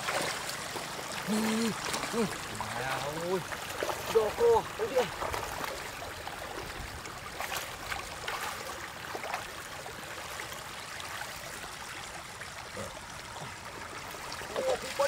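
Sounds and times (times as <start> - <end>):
small water splashes: 0.0 - 15.0
water trickling over rocks: 0.0 - 15.0.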